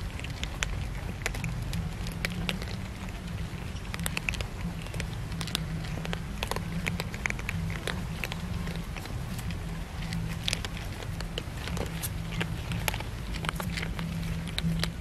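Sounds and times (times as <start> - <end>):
cats crunching dry kibble: 0.0 - 15.0
low steady rumble: 0.0 - 15.0.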